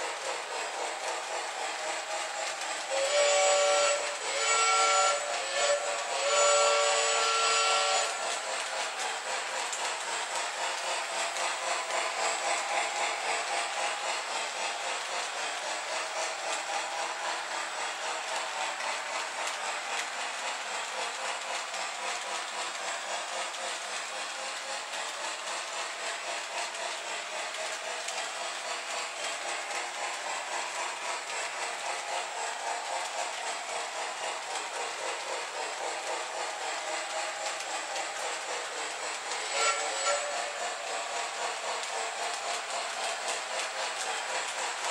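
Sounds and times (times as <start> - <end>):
model train wheels rolling on rails: 0.0 - 44.9.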